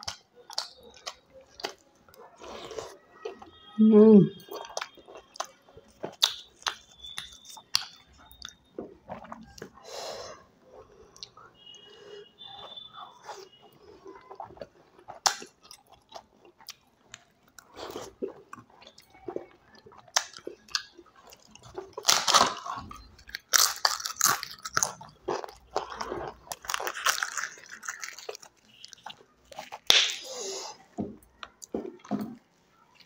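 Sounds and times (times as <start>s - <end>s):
crunchy chewing: 0.0s - 3.6s, 4.4s - 32.2s.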